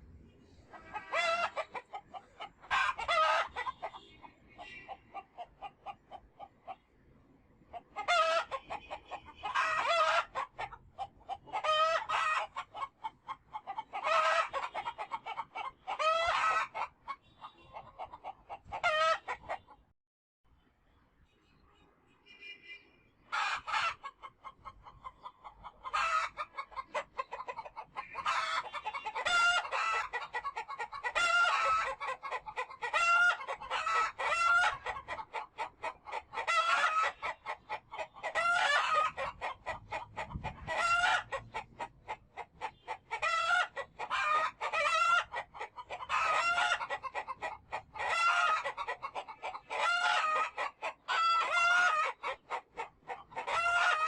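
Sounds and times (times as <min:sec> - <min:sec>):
chickens clucking and crowing: 0:00.0 - 0:19.9, 0:23.2 - 0:54.0.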